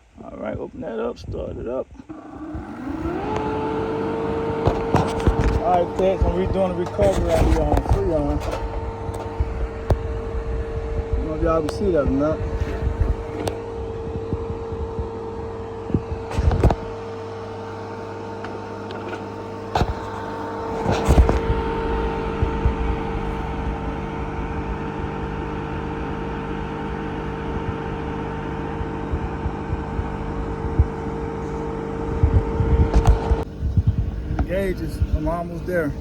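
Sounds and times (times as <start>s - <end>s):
recovery machine compressor humming: 0.0s - 36.0s
higher machine tone: 2.0s - 36.0s.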